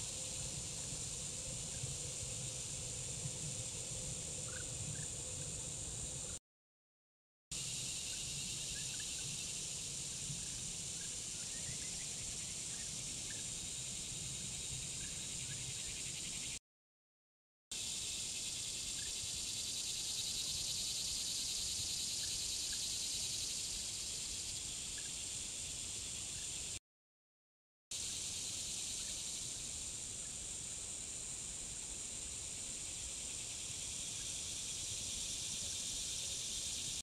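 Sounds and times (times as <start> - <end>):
insect chorus drone: 0.0 - 6.4, 7.6 - 16.6, 17.8 - 26.8, 28.0 - 37.0.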